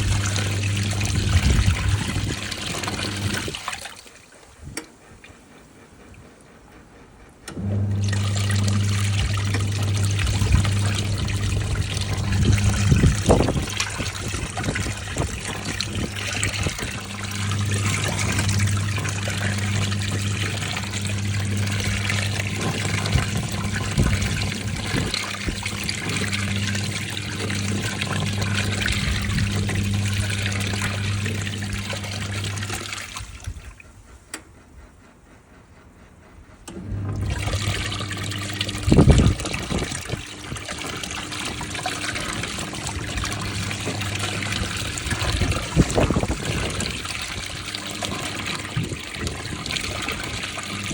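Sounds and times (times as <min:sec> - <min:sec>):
sloshing water: 0:00.0 - 0:06.7, 0:07.5 - 0:34.0, 0:36.7 - 0:50.9
washing machine hum: 0:00.0 - 0:50.9.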